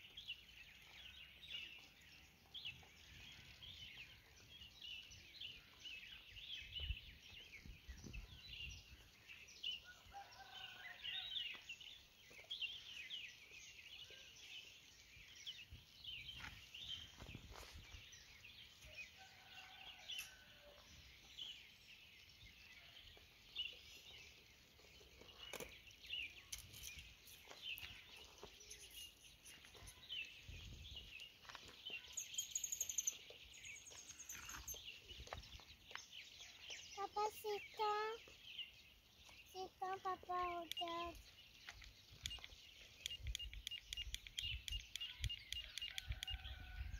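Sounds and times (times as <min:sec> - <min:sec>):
birds chirping and calling: 0:00.0 - 0:46.9.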